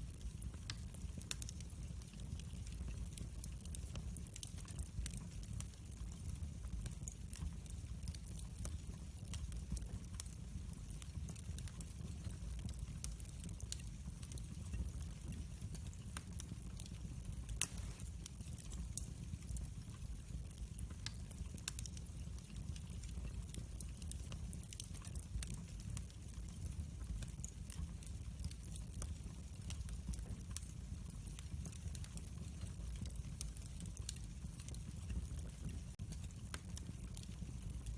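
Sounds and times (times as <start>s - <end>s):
fire crackling and popping: 0.0s - 37.9s
low rumble of fire: 0.0s - 37.9s.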